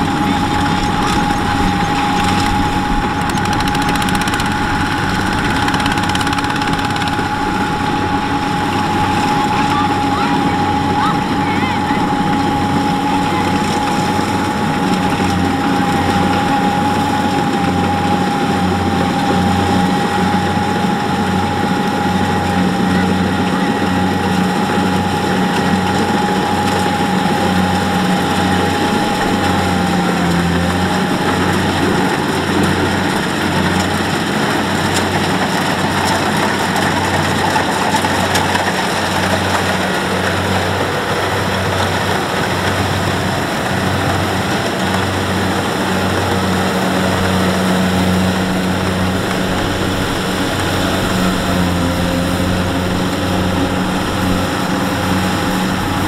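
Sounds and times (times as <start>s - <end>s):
diesel engine running under load: 0.0s - 56.0s
high machinery whine: 0.0s - 56.0s.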